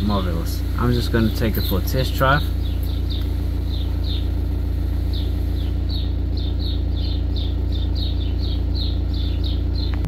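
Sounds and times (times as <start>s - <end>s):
bird chirping: 0.0s - 10.0s
car engine idling: 0.0s - 10.0s.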